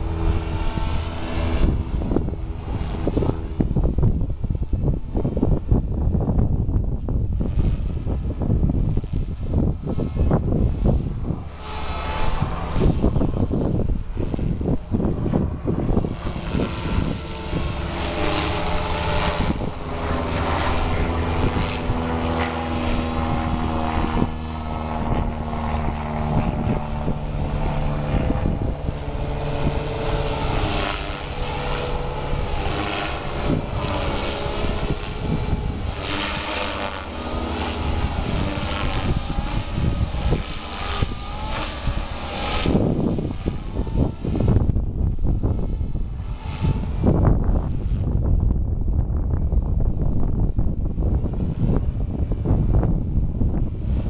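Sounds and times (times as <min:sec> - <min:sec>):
rc helicopter motor whine: 0:00.0 - 0:54.0
wind buffeting microphone: 0:00.0 - 0:54.0.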